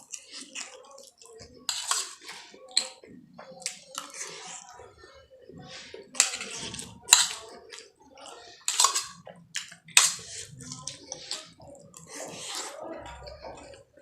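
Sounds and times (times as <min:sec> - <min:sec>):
food being chewed: 0:00.0 - 0:14.0.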